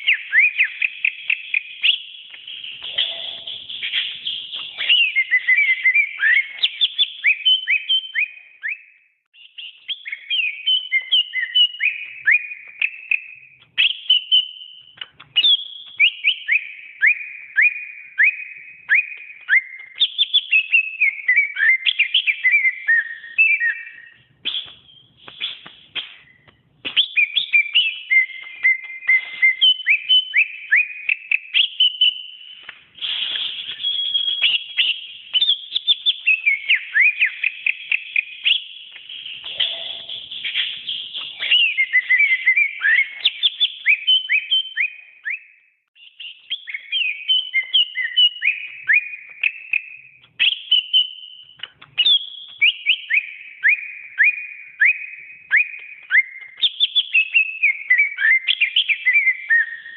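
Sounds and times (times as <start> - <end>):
bird singing whistled notes: 0.0 - 59.9.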